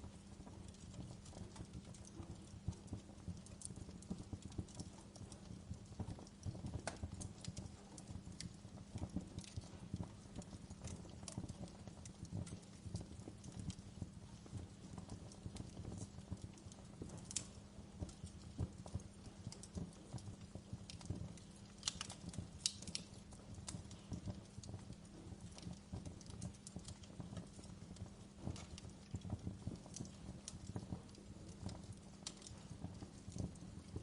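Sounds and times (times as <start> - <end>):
low rumble of fire: 0.0 - 34.0
wood fire crackling and popping: 0.0 - 34.0.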